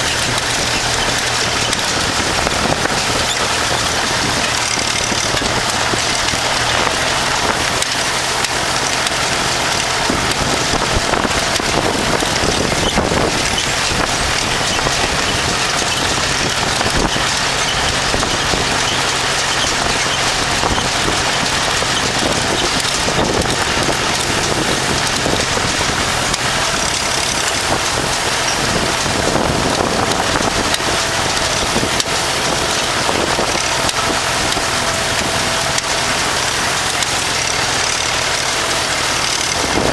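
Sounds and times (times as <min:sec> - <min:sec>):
tractor engine running: 0:00.0 - 0:39.9
wind on microphone: 0:00.0 - 0:39.9.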